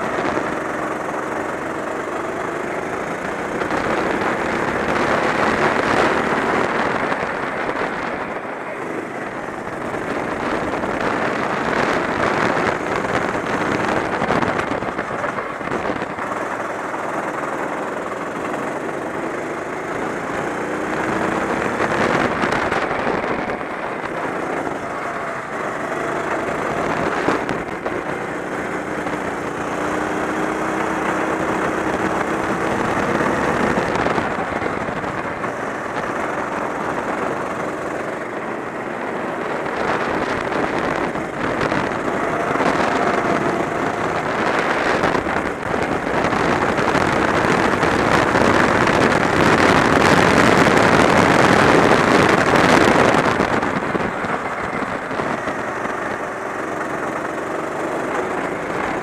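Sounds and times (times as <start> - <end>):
go-kart engine racing: 0.0 - 59.0
road noise: 0.0 - 59.0
rushing wind: 0.0 - 59.0.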